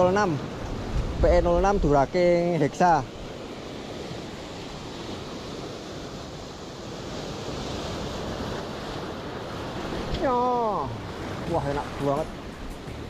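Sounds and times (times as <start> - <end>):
waves breaking over rocks: 0.0 - 13.0.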